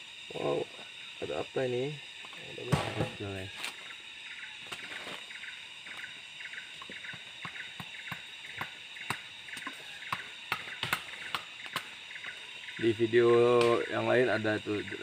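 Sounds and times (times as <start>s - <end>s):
insect chirps: 0.0s - 15.0s
insect chorus drone: 0.0s - 15.0s.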